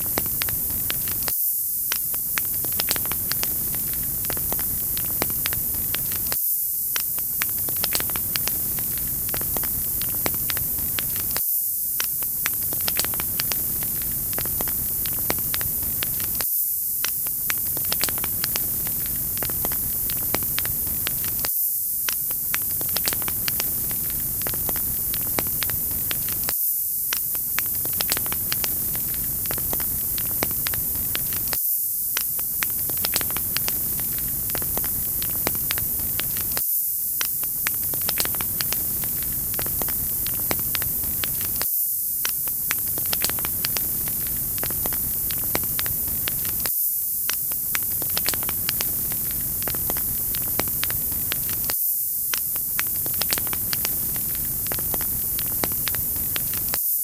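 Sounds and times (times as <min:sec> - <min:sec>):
wood fire crackling: 0:00.0 - 0:01.3, 0:02.0 - 0:11.4, 0:12.0 - 0:16.4, 0:17.0 - 0:26.5, 0:27.1 - 0:36.6, 0:37.2 - 0:41.6, 0:42.2 - 0:56.8.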